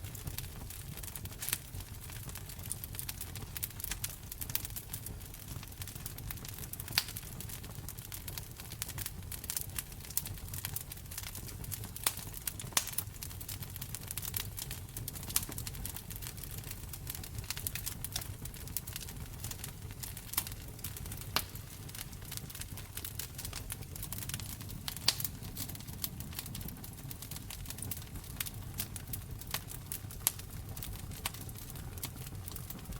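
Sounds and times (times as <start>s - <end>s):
low fire rumble: 0.0s - 32.9s
wood fire crackling: 0.0s - 32.9s.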